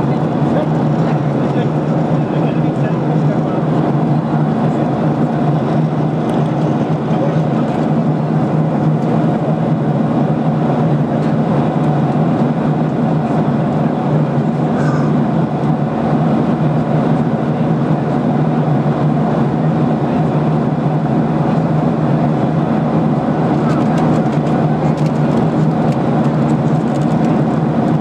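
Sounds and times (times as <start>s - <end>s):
airplane cabin engine drone: 0.0s - 28.0s.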